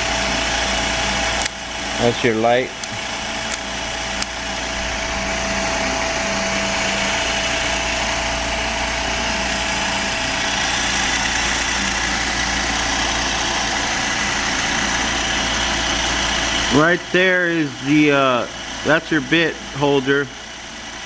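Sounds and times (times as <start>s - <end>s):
riveting machine motor humming: 0.0s - 21.0s.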